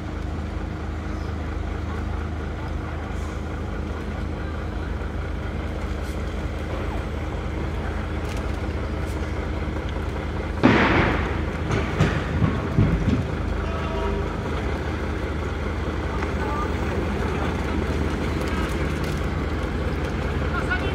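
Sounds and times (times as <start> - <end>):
heavy diesel lorry engine running: 0.0 - 20.9.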